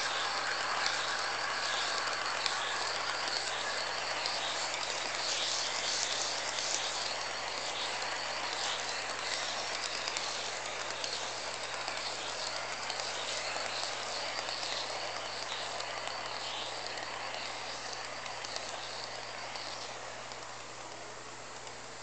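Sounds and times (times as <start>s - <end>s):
model train wheels clattering: 0.0s - 22.0s.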